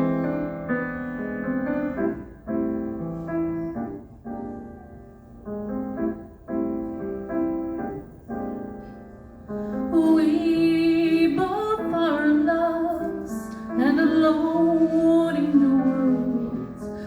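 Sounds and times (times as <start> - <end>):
electric piano chords and melody: 0.0 - 17.0.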